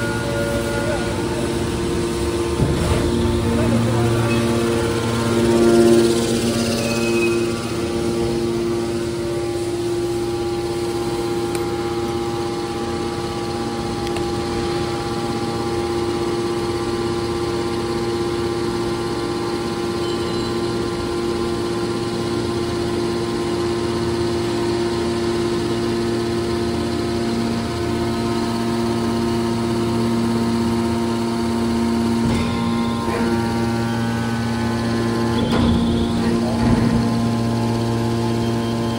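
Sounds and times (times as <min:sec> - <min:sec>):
hydraulic pump humming: 0:00.0 - 0:38.9.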